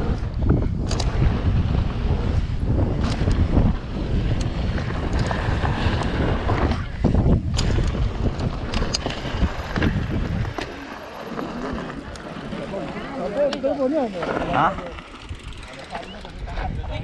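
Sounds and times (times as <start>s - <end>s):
bike clicks and rattles: 0.0s - 17.0s
wind buffeting microphone: 0.0s - 17.0s.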